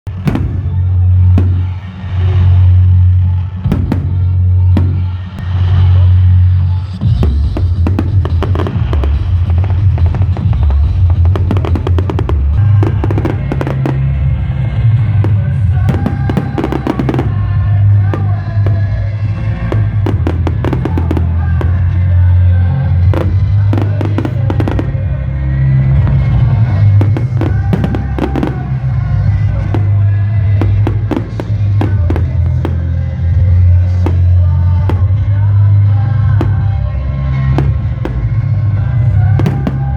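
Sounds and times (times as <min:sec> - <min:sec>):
loud music with heavy bass: 0:00.0 - 0:39.9
fireworks bangs and crackles: 0:00.1 - 0:39.9.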